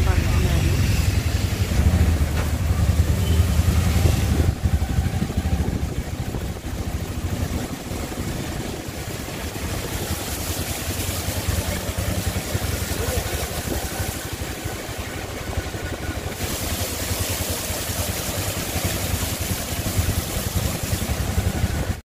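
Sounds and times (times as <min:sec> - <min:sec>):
hiss of wet road and rain: 0:00.0 - 0:22.0
vehicle rumble: 0:00.0 - 0:22.0.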